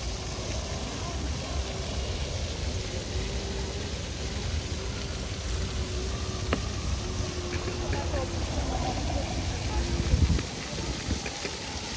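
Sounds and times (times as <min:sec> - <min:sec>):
faint steady hum: 0:00.0 - 0:11.9
steady rushing hiss: 0:00.0 - 0:11.9.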